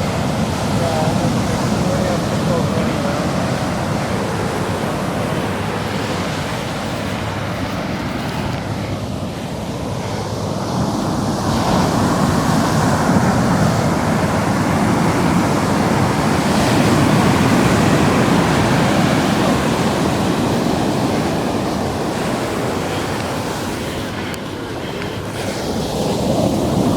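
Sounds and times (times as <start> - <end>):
ocean surf washing up beach: 0.0 - 26.9.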